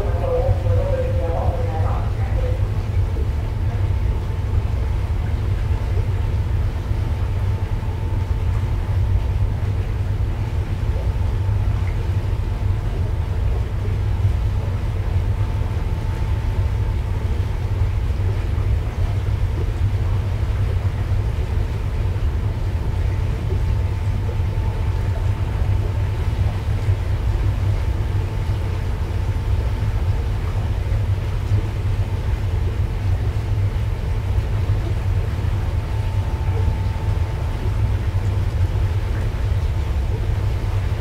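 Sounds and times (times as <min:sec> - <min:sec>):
faint machinery hum: 0:00.0 - 0:41.0
ship low rumble: 0:00.0 - 0:41.0.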